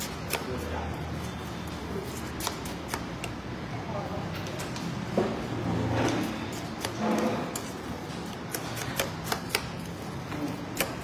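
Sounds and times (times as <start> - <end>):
low background murmur: 0.0 - 11.0.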